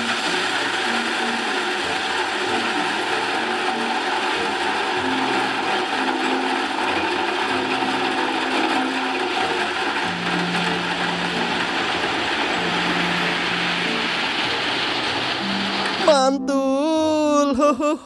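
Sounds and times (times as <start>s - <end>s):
gravel sliding from dump truck: 0.0s - 15.9s.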